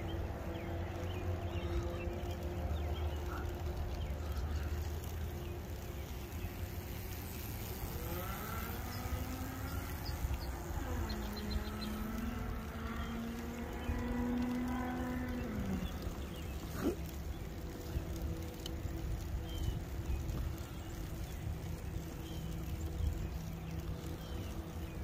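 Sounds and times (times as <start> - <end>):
electric motor whine: 0.0 - 25.0
vehicle engine revving: 0.0 - 25.0
wind rumble on microphone: 0.0 - 25.0.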